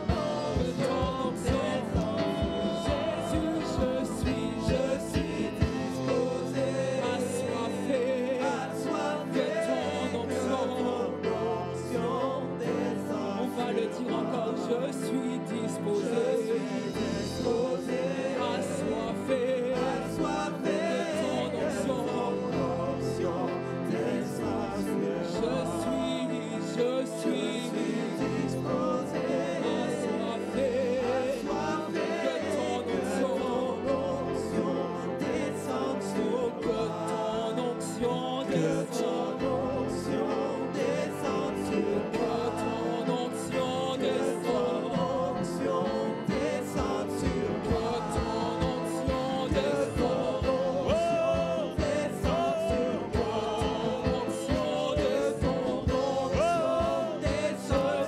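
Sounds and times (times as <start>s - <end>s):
praise band playing: 0.0s - 58.0s
voices singing along: 0.0s - 58.0s.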